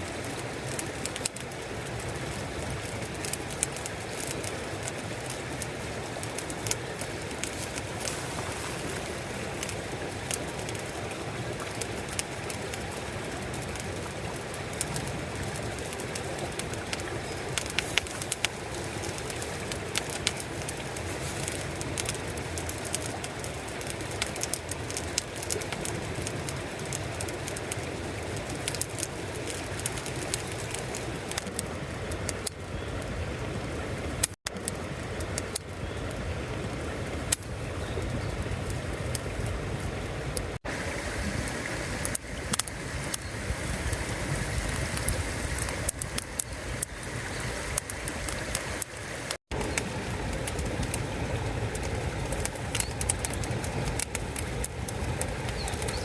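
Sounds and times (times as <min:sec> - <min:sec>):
wood fire crackling and popping: 0:00.0 - 0:32.6, 0:34.0 - 0:35.8, 0:38.4 - 0:56.0.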